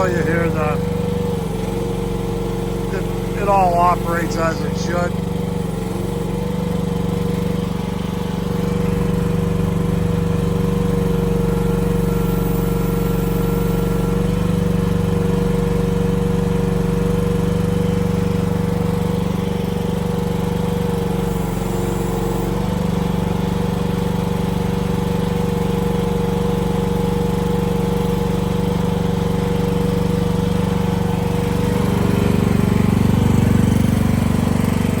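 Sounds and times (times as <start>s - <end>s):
mini excavator engine running: 0.0s - 35.0s.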